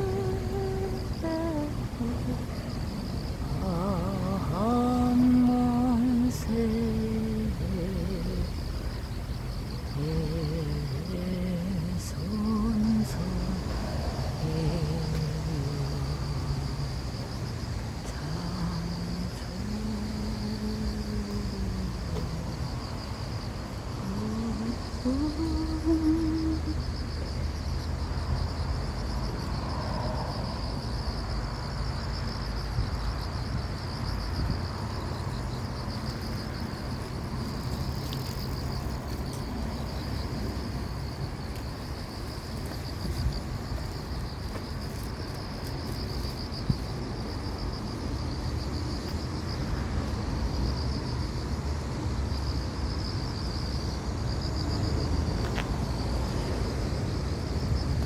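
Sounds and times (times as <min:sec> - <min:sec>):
constant low rumble: 0:00.0 - 0:58.0
insects trilling: 0:00.0 - 0:58.0.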